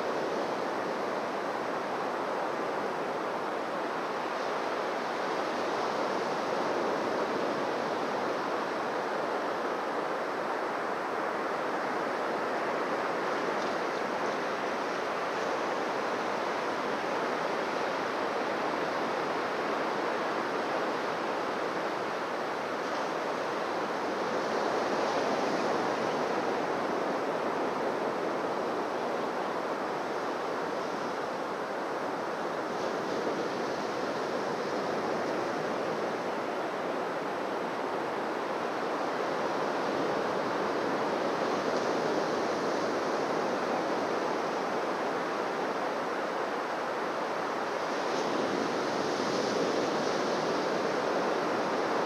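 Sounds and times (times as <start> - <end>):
surf washing on beach: 0.0 - 52.0.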